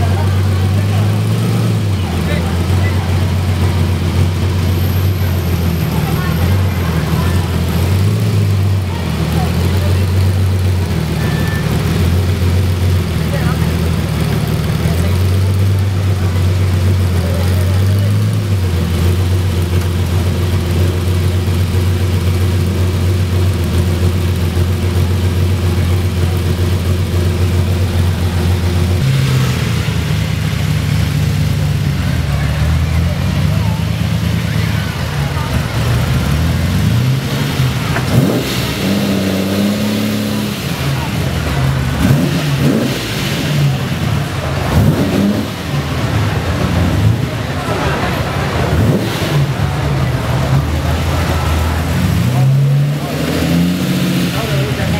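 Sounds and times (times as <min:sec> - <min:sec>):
car engine idling: 0:00.0 - 0:54.9.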